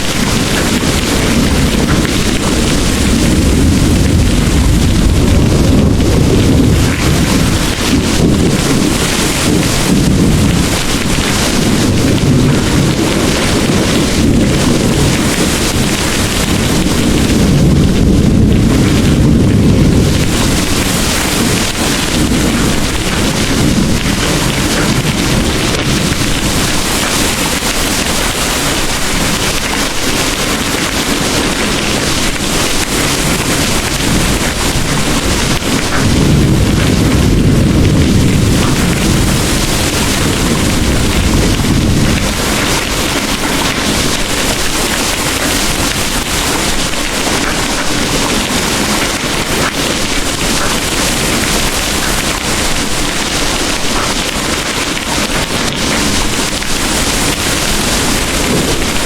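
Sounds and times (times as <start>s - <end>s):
distant thunder rumbling: 0.0s - 59.0s
heavy rain pouring: 0.0s - 59.0s.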